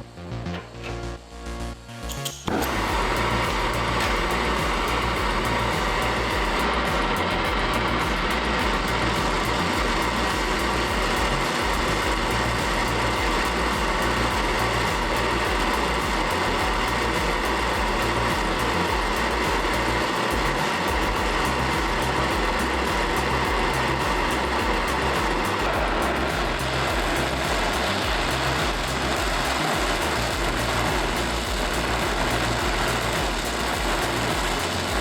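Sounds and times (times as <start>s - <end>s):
gas torch flame hissing: 2.5s - 35.0s.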